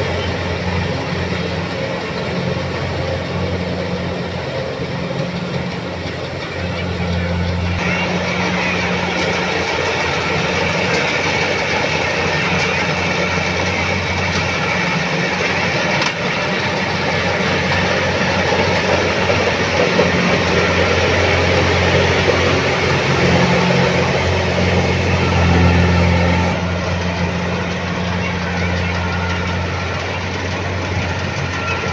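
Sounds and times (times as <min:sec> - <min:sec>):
combine harvester engine clattering: 0:00.0 - 0:31.9.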